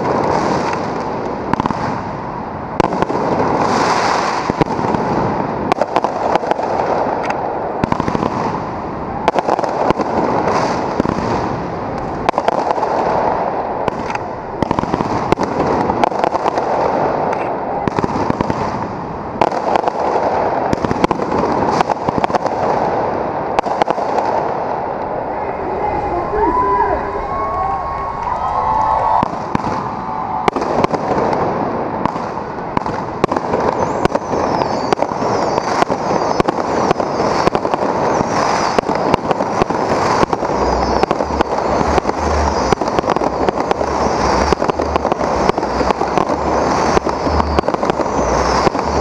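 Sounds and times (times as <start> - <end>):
fireworks bangs: 0.0 - 49.0
fireworks crackling: 0.0 - 49.0.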